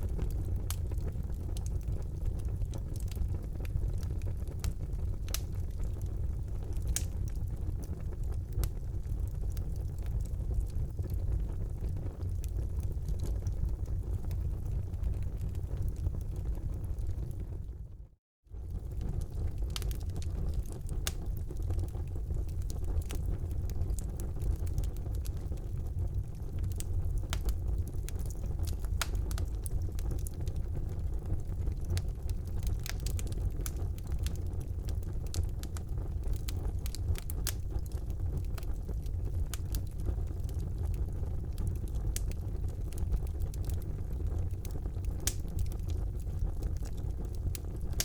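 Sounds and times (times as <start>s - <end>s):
fireplace fire crackling: 0.0s - 48.0s.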